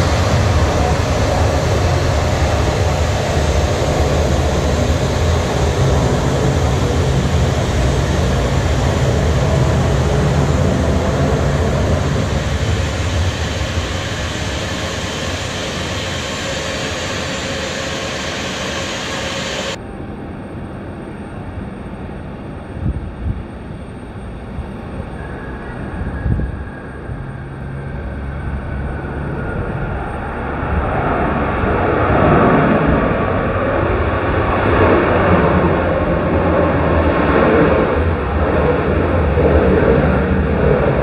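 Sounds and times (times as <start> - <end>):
jet engines rumbling: 0.0 - 19.8, 24.3 - 41.0.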